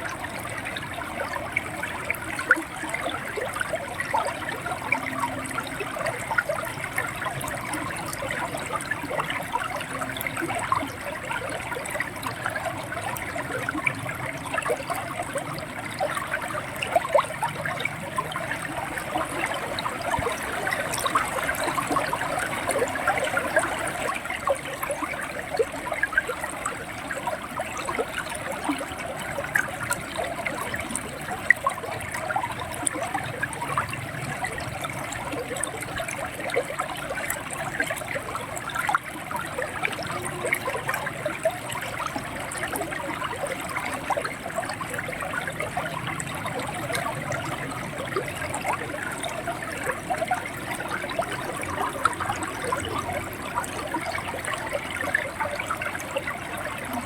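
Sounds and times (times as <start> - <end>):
river water gurgling over stones: 0.0 - 57.0.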